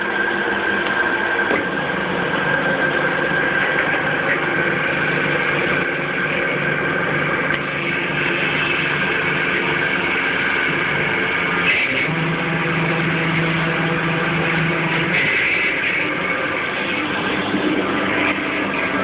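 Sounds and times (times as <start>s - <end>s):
machine humming with high whine: 0.0s - 19.0s.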